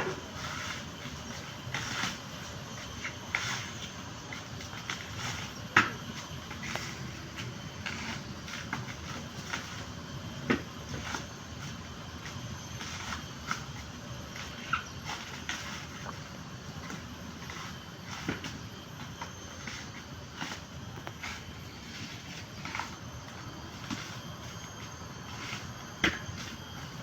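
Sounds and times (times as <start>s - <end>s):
scraping coconut husk: 0.0s - 27.0s.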